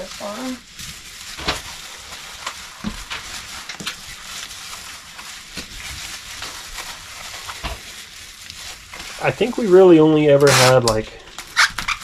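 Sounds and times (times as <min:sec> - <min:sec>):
bubble mailer crinkling: 0:00.0 - 0:12.0.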